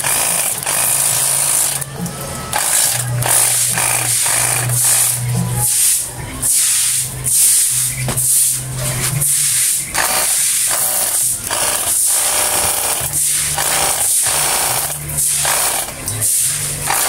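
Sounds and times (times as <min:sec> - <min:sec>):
pressure washer pump buzzing: 0:00.0 - 0:17.0
water jet hissing: 0:00.0 - 0:17.0.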